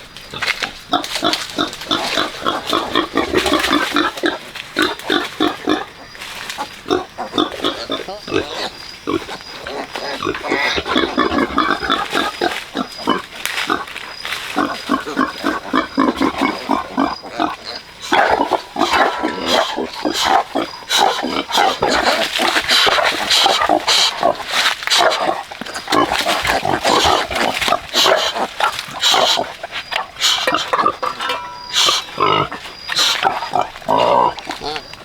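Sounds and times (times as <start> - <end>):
pigs calling: 0.0 - 35.0.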